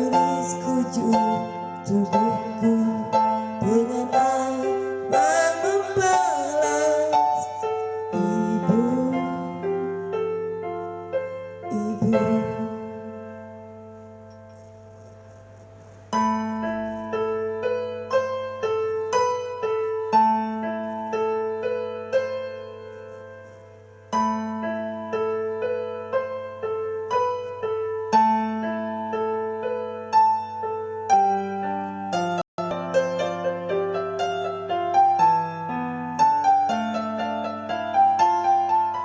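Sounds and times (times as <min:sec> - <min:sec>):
piano melody: 0:00.0 - 0:39.0.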